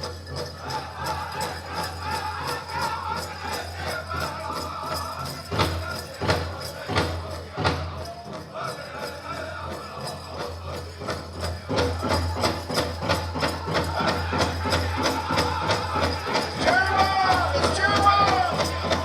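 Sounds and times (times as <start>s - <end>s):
group singing over drum: 0.0s - 19.0s
loud drum beats: 0.0s - 19.0s.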